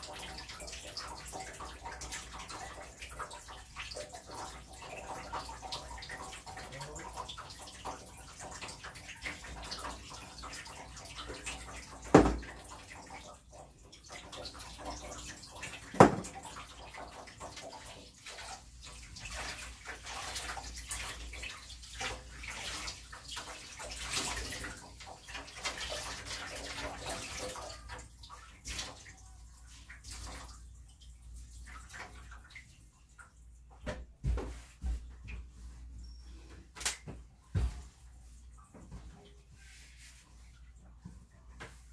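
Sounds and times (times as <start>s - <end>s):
water running into sink: 0.0s - 41.9s.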